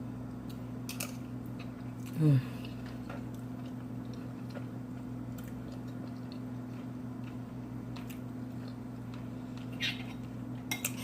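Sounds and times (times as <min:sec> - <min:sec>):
person chewing food: 0:00.2 - 0:10.7.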